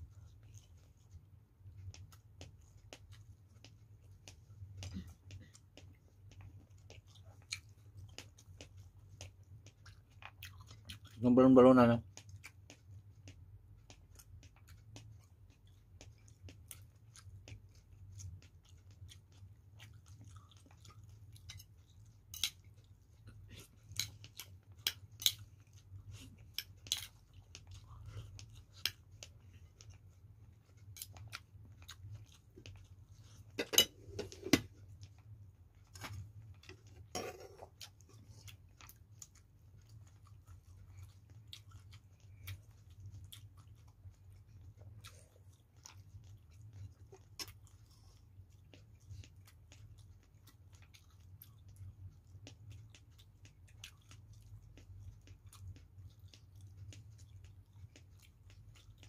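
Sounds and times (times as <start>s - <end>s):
chewing and lip smacks: 0.0s - 59.0s
faint low hum: 0.0s - 59.0s.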